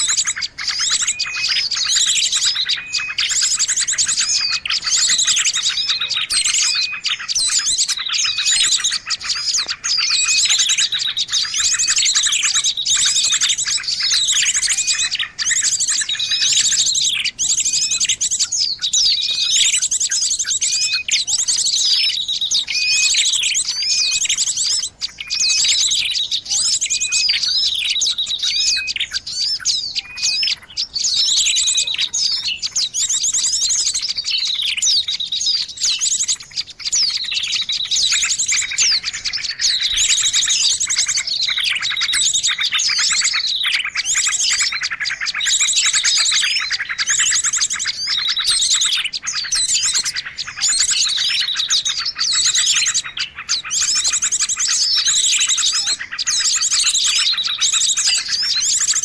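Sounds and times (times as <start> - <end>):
songbirds trilling: 0.0 - 59.0.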